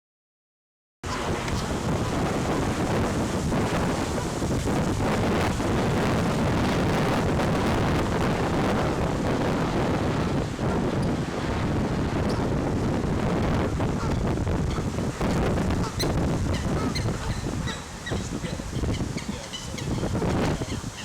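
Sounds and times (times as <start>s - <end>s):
wind buffeting a microphone: 1.0s - 21.0s.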